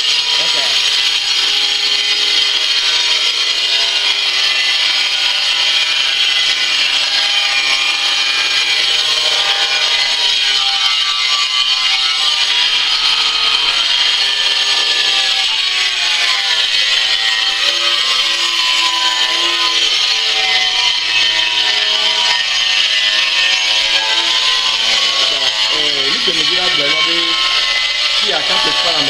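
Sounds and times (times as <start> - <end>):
angle grinder cutting tile: 0.0 - 29.0.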